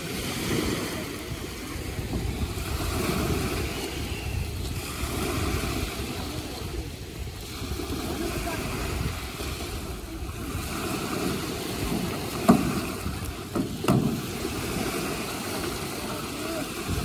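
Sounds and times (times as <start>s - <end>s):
surf washing: 0.0s - 17.0s
wind gusts on microphone: 0.0s - 17.0s.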